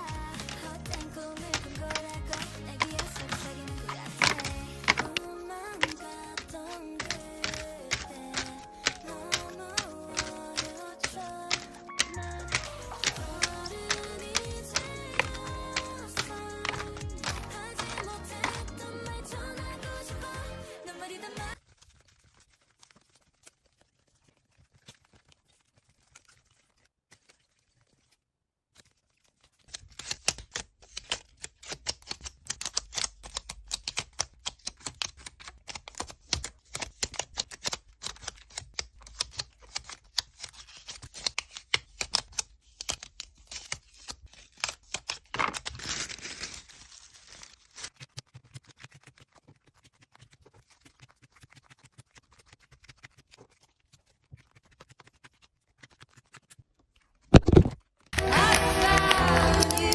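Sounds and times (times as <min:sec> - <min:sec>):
plastic and paper crinkling: 0:00.0 - 0:19.5, 0:21.5 - 0:59.9.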